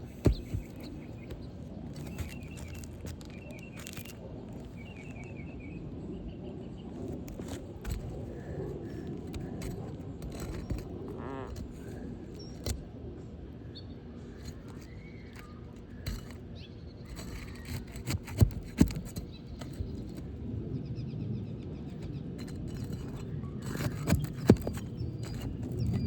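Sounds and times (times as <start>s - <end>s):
pry bar scraping shingles: 0.0s - 5.3s, 7.0s - 13.4s, 14.2s - 20.6s, 21.8s - 26.0s.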